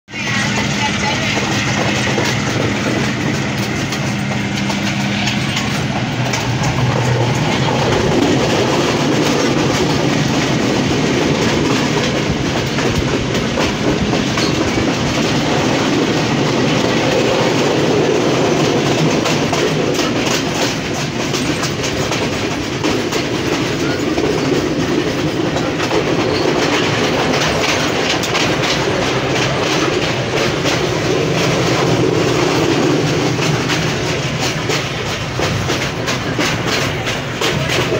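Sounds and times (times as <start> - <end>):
clickety-clack over the track: 0.1 - 37.9
train wheels rumbling: 0.1 - 37.9.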